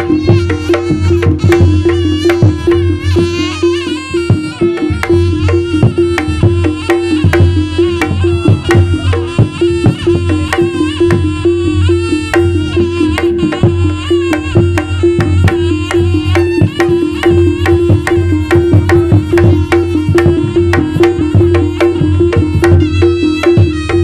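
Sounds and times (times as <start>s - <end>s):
gongs and metal percussion: 0.0s - 24.0s
hand drums playing rapid strokes: 0.0s - 24.0s
high wavering melody: 0.0s - 24.0s.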